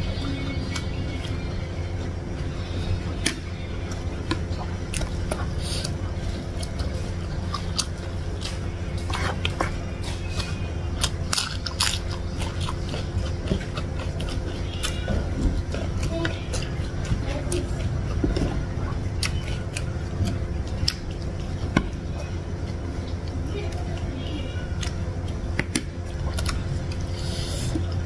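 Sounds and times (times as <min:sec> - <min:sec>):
chewing with wet mouth clicks: 0:00.0 - 0:28.0
steady low hum: 0:00.0 - 0:28.0.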